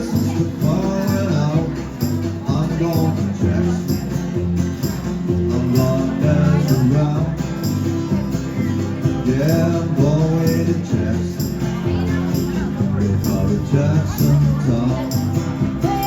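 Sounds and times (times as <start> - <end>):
music with steady beat: 0.0 - 16.0.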